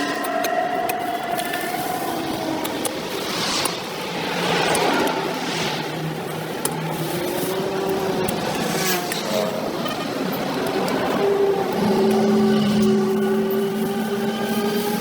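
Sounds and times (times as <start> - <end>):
vehicles passing on highway: 0.0 - 15.0.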